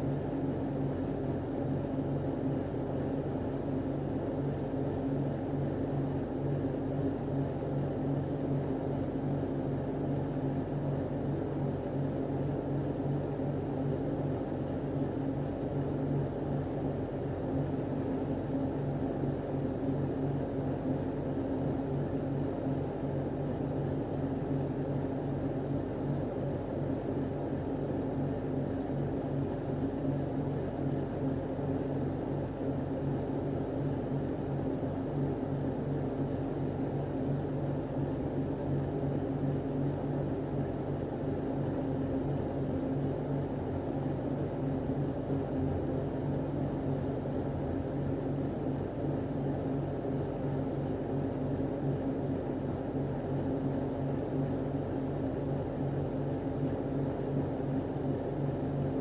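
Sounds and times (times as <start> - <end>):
mechanical drone with low hum: 0.0 - 59.0.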